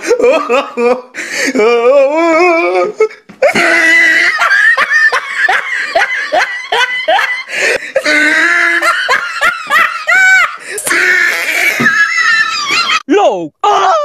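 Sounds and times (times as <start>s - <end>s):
person laughing hard: 0.0s - 1.7s, 2.6s - 13.0s.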